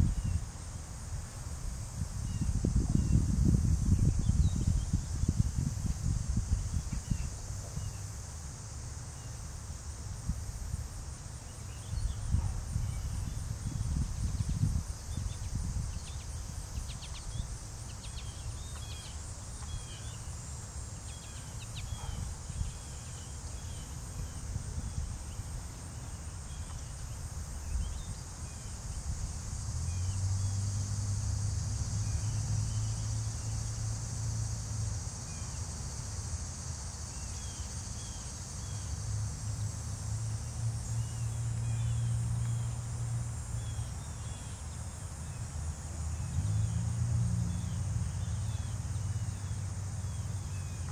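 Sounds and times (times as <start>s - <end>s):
insect chorus: 0.0s - 50.9s
short insect chirps: 1.8s - 46.8s.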